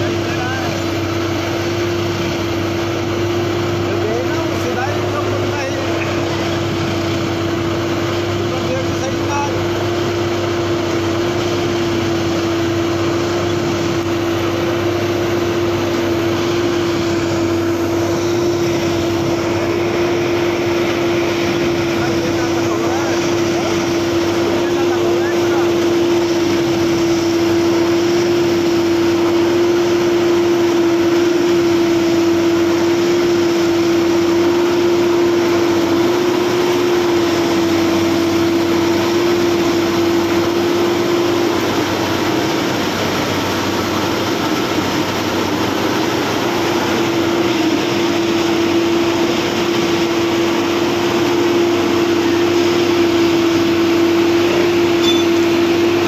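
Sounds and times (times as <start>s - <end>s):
track machine mechanical drone: 0.0s - 56.0s.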